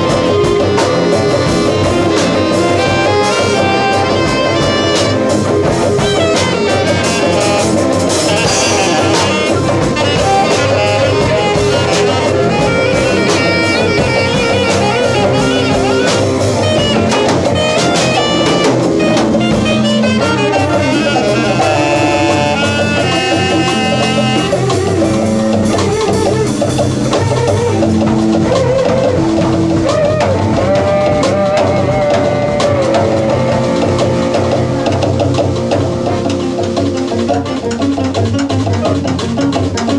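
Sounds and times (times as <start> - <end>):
drum kit: 0.0 - 39.9
electric guitar: 0.0 - 39.9
saxophone: 0.0 - 39.9.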